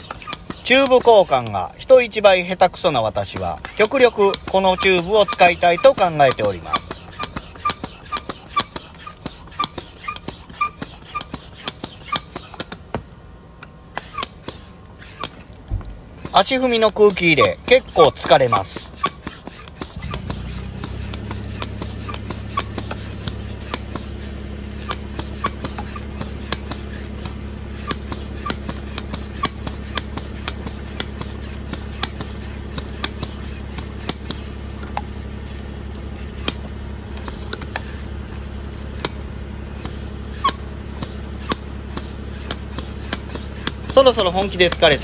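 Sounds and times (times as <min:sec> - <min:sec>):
foot pump clicking and rubbing: 0:00.0 - 0:45.0
steady low hum: 0:00.0 - 0:45.0.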